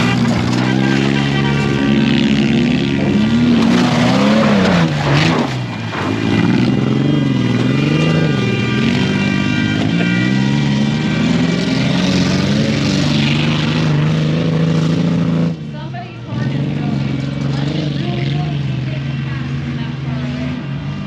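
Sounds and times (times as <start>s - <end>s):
truck engine revving hard: 0.0s - 21.0s.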